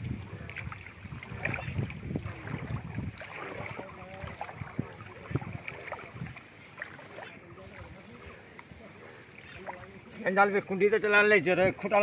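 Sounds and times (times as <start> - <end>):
wind on microphone: 0.0 - 10.1
water sloshing and splashing: 0.0 - 12.0.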